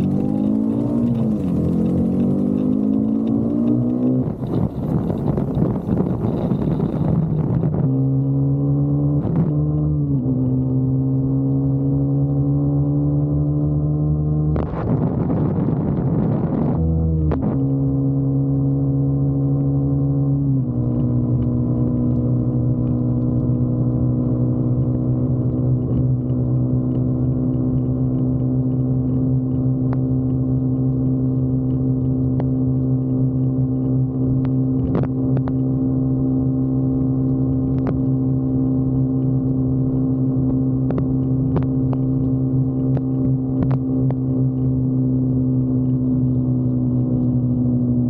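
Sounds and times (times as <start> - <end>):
motorcycle engine cruising: 0.0 - 48.0.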